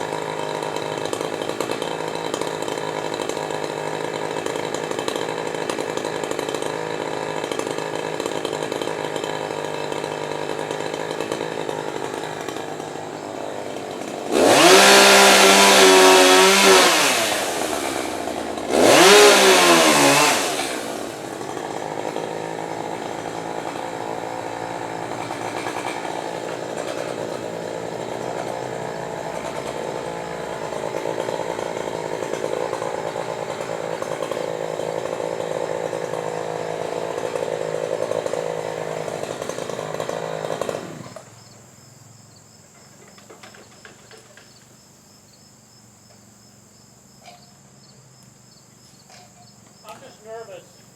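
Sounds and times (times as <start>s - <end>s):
chainsaw idling and revving: 0.0s - 50.9s.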